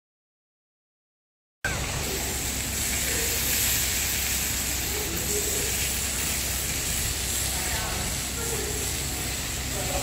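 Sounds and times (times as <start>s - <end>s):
hose spraying on tiled floor: 1.7s - 10.0s.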